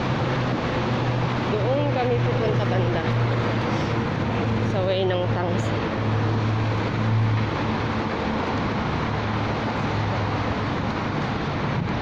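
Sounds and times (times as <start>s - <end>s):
low engine hum: 0.0s - 12.0s
passing vehicles rushing: 0.0s - 12.0s.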